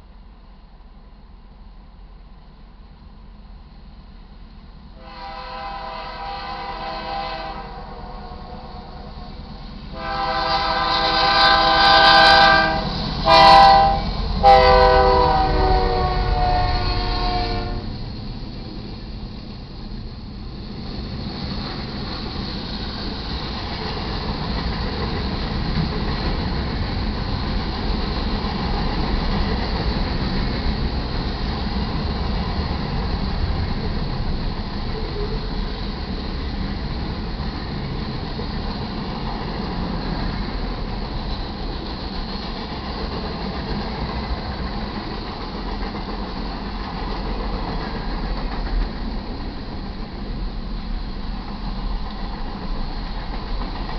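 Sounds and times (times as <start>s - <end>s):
freight train cars rolling past: 0.0s - 53.9s.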